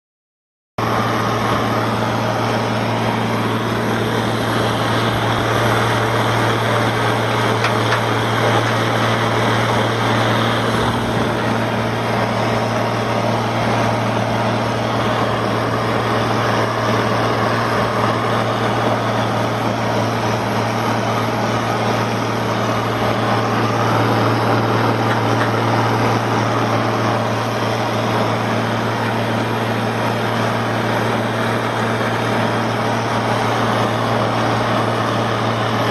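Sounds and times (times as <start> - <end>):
tractor diesel engine running: 0.8 - 35.9.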